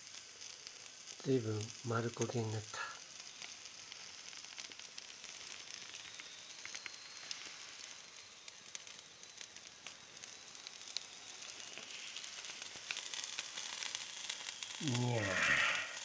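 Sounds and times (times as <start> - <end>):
fish sizzling on a grill: 0.0 - 16.0
small pops: 0.0 - 16.0.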